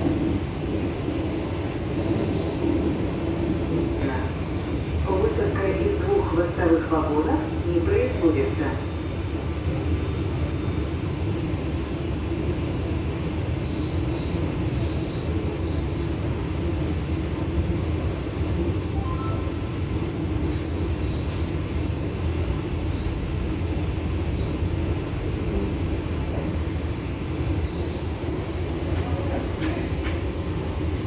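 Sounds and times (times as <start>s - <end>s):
train wheels rumbling on rail: 0.0s - 19.0s, 19.6s - 31.0s.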